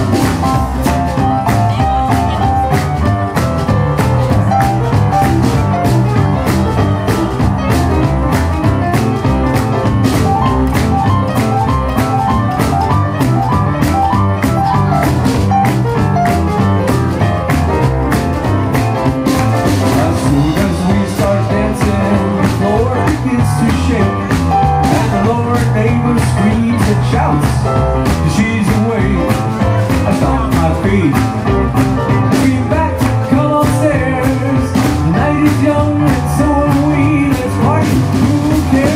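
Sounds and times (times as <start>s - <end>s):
drum kit: 0.0s - 38.9s
electric guitar: 0.0s - 38.9s
upright double bass: 0.0s - 38.9s.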